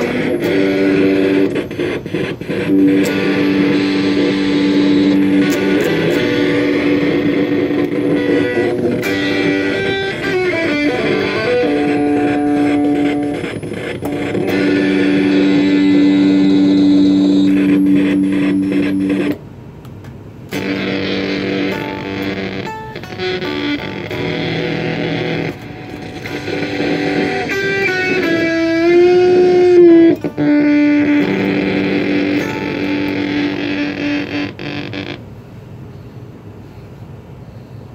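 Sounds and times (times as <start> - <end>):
electric guitar chords with flanger: 0.0 - 19.4, 20.5 - 35.2.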